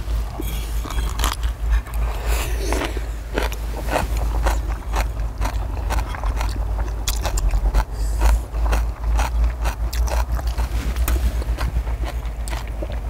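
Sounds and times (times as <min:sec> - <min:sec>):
low rumble: 0:00.0 - 0:13.0
chewing: 0:00.2 - 0:13.0.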